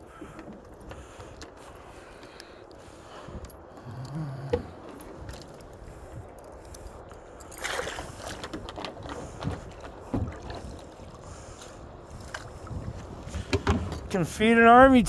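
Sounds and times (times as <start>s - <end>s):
water sloshing against kayak: 0.0s - 15.0s.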